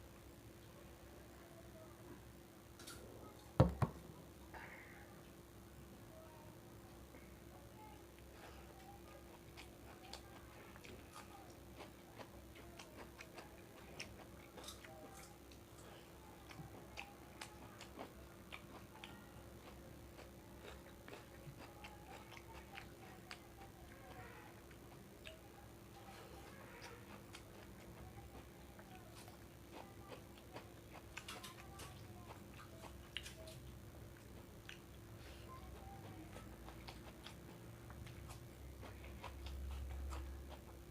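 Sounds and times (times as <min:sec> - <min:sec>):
person chewing food: 0:08.2 - 0:40.9.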